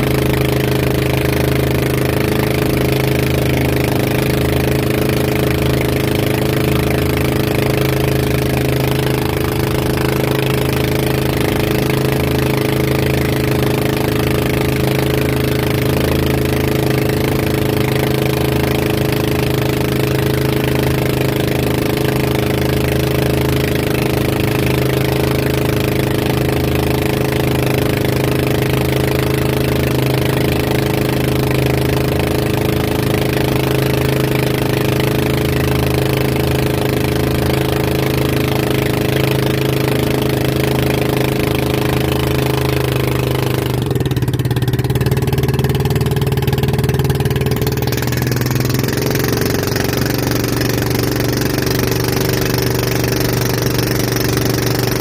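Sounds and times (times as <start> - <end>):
boat engine running: 0.0 - 55.0
water rushing and splashing: 0.0 - 55.0.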